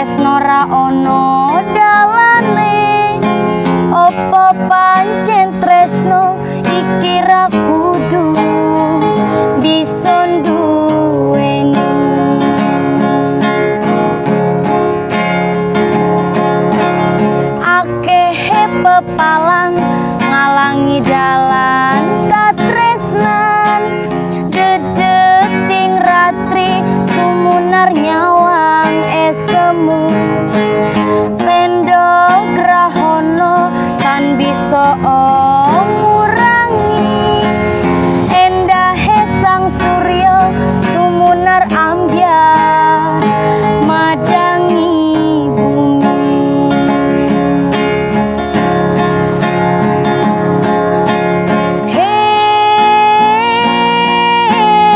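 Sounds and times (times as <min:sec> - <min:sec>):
woman singing: 0:00.0 - 0:14.2, 0:17.4 - 0:48.4, 0:51.8 - 0:54.9
strummed acoustic guitar: 0:00.0 - 0:54.9.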